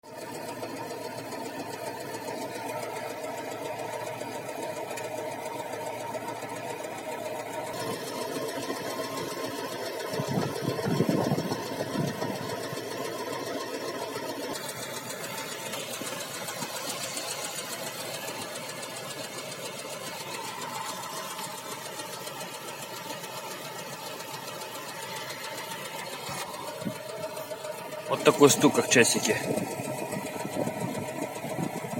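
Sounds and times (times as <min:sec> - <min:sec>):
engine running with ticking knock: 0:00.0 - 0:31.9.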